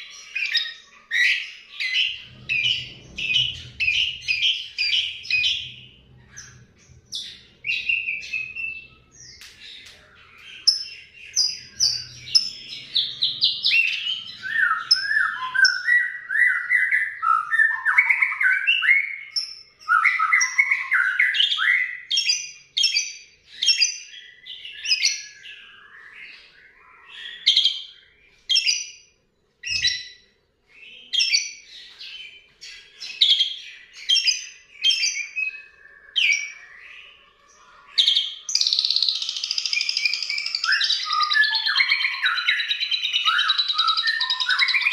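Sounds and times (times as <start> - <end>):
starling singing: 0.0 - 29.0, 29.6 - 44.9.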